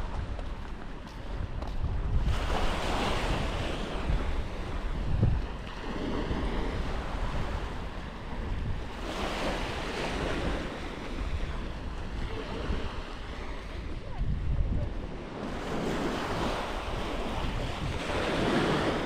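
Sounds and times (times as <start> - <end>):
wind rumbling on microphone: 0.0 - 19.0
surf washing onto beach: 2.2 - 19.0.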